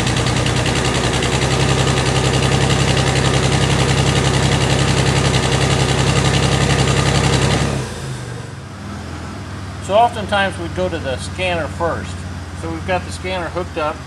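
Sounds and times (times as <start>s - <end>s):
misfiring engine exhaust: 0.0s - 14.0s.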